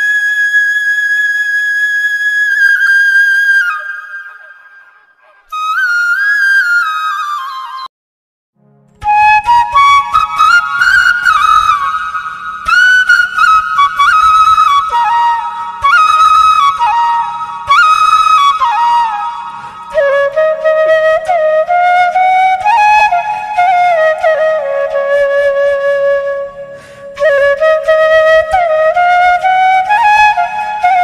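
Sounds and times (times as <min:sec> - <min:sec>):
slow solo flute melody: 0:00.0 - 0:07.9, 0:08.9 - 0:31.0.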